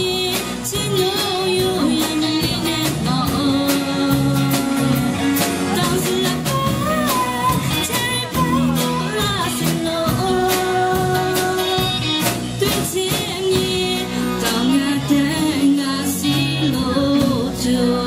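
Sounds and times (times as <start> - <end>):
live rock band playing: 0.0 - 18.0
woman singing into microphone: 0.0 - 18.0.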